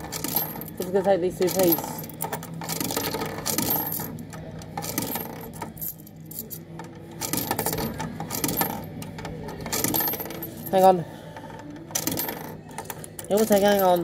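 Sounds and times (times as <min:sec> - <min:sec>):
coins clinking in coin slot: 0:00.0 - 0:11.0, 0:11.8 - 0:14.0.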